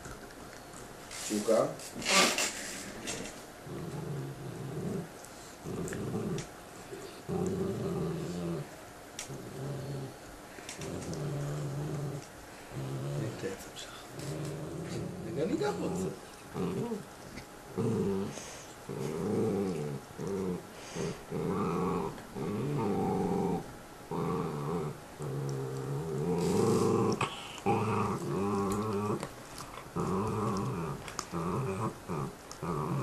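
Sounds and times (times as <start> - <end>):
dog growling: 3.0 - 33.0.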